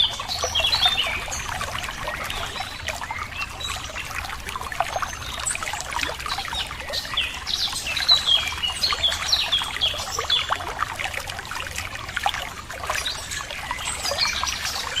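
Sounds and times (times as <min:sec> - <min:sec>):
water trickling over stones: 0:00.0 - 0:15.0.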